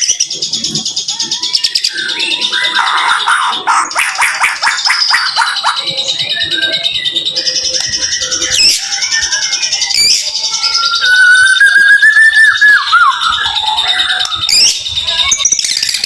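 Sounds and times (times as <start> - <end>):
bird singing rapid chattering notes: 0.0 - 16.0.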